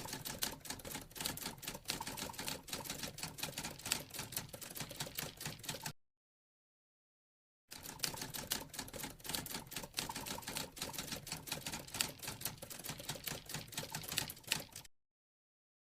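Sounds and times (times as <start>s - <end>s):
rapid irregular clicking: 0.0s - 5.9s, 7.7s - 14.9s.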